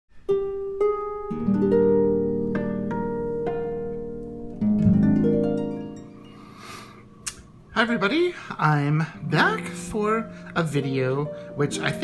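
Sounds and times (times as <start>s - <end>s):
low chord: 0.2s - 12.0s
plucked string music: 0.2s - 12.0s.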